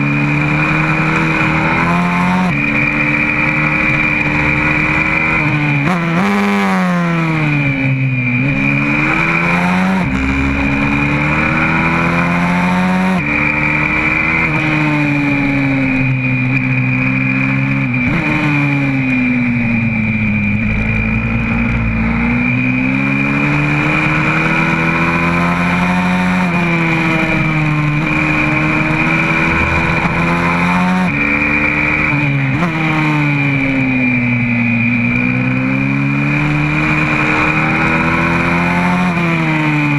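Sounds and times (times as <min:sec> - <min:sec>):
motorbike engine revving: 0:00.0 - 0:39.9
steady high whine: 0:00.0 - 0:39.9.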